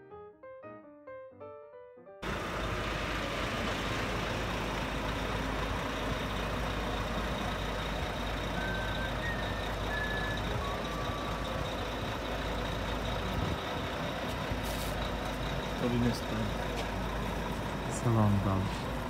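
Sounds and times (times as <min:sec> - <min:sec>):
bus engine rumble: 0:02.2 - 0:19.0
outdoor noise: 0:02.2 - 0:19.0.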